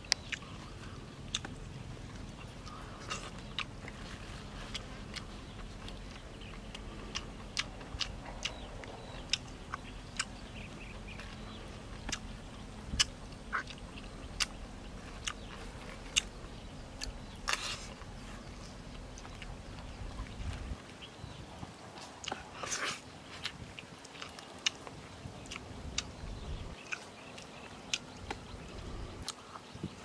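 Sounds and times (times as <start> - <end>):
person chewing: 0.0 - 20.8, 22.0 - 29.7.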